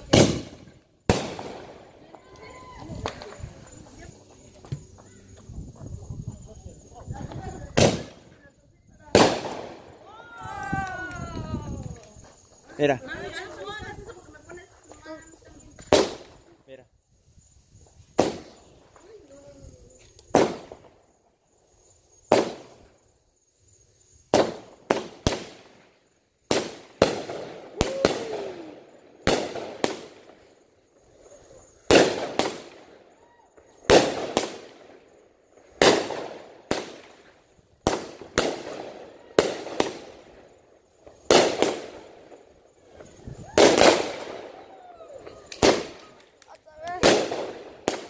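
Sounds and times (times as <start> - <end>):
fireworks bangs: 0.0 - 16.6, 17.8 - 21.2, 22.2 - 23.1, 24.2 - 48.0.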